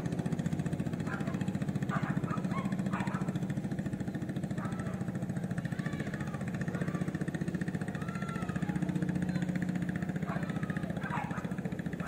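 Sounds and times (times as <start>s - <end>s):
small boat engine putter: 0.0s - 12.0s.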